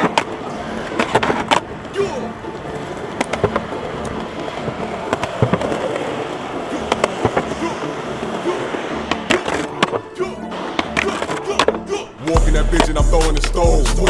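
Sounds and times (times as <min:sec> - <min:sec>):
skateboard popping and landing: 0:00.0 - 0:11.9
skateboard scraping on concrete: 0:00.0 - 0:14.0
skateboard wheels rolling on concrete: 0:00.0 - 0:14.0.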